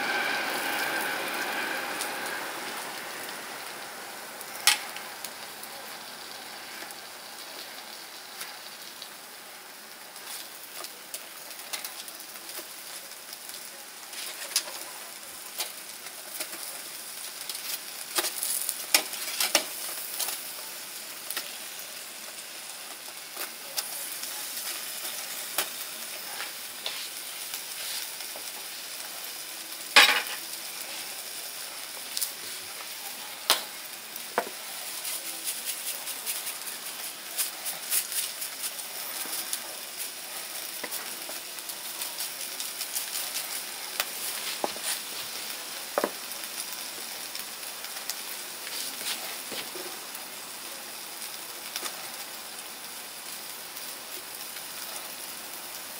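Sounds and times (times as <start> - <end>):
beef sizzling on grill: 0.0 - 55.9.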